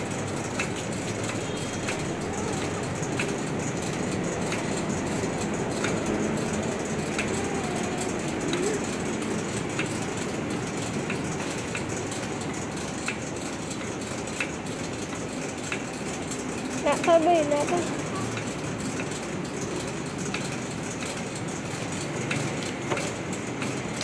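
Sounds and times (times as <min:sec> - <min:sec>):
conveyor machine running: 0:00.0 - 0:24.0.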